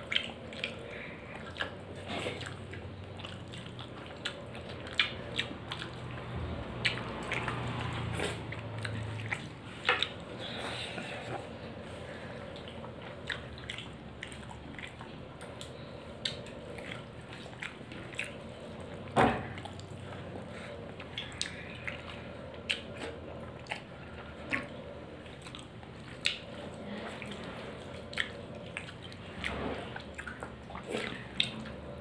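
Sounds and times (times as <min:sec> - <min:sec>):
chewing and lip smacks: 0:00.0 - 0:32.0.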